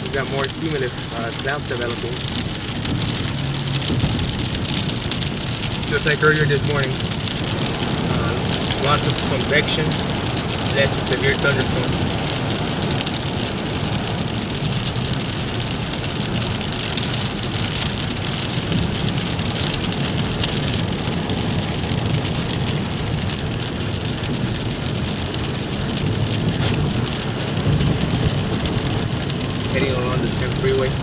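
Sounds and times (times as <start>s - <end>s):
rain falling on a car: 0.0s - 31.0s
road and tyre noise: 0.0s - 31.0s.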